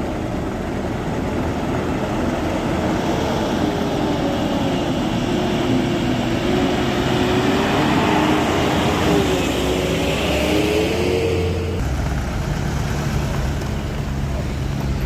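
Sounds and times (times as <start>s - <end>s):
diesel truck engine under load: 0.0s - 15.0s.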